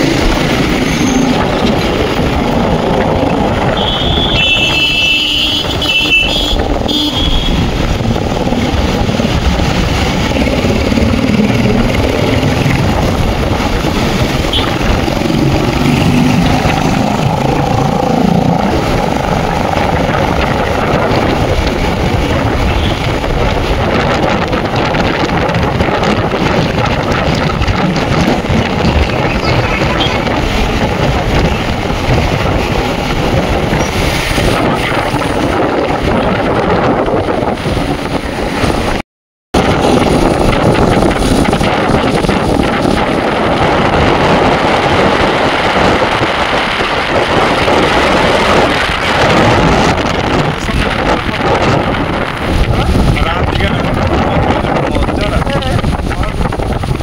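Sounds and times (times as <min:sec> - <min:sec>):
vehicle engine and road rumble: 0:00.0 - 0:39.0, 0:39.6 - 0:57.0.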